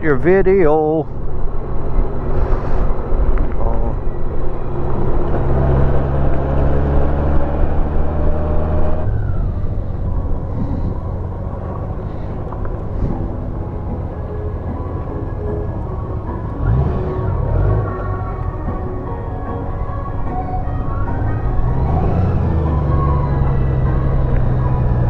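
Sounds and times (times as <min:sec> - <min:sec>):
wind noise: 0:00.0 - 0:25.0
motorcycle engine running: 0:03.6 - 0:25.0.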